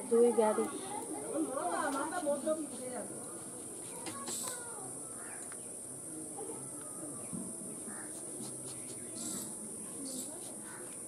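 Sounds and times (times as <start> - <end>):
faint distant calls: 0.0 - 11.0
insects chirring: 0.0 - 11.0.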